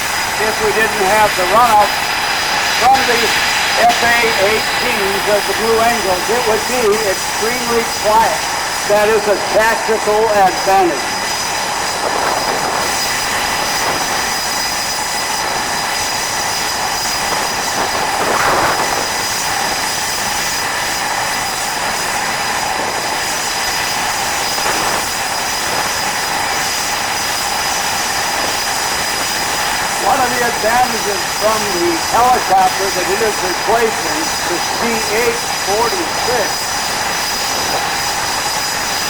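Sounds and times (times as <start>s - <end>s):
jet engine turbine whine: 0.0s - 39.0s.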